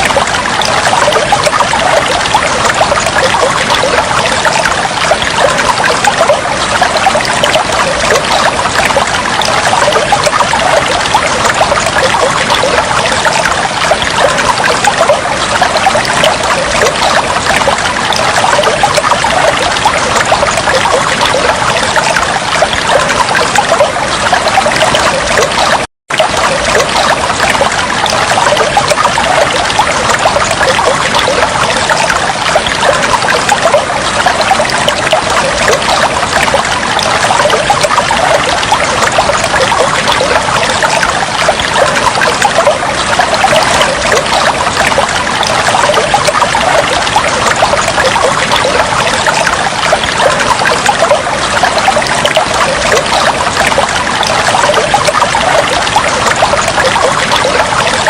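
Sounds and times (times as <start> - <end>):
water trickling and flowing: 0.0 - 58.0.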